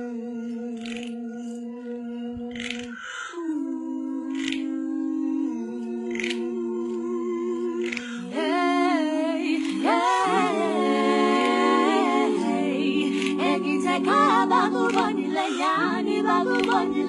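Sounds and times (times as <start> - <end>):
a cappella group singing in harmony: 0.0 - 17.0.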